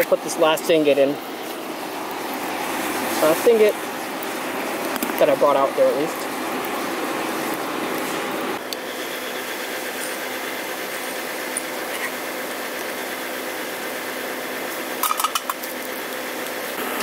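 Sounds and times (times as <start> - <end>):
coal fire rushing: 0.0 - 17.0.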